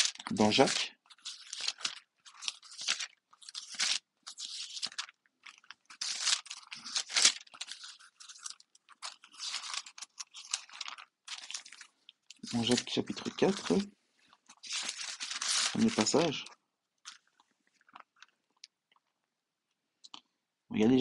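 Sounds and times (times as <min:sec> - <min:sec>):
paper pages rustling: 0:00.0 - 0:18.4.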